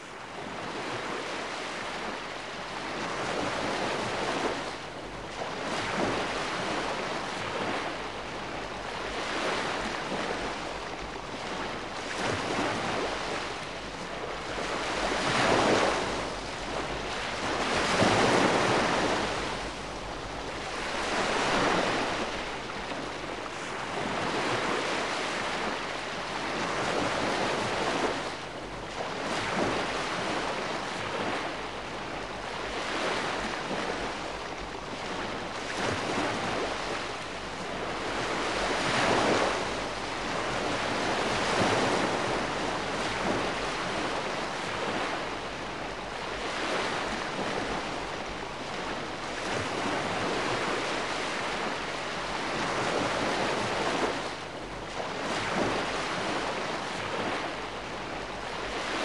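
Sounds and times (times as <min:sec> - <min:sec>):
gentle waves washing on shore: 0:00.0 - 0:59.0.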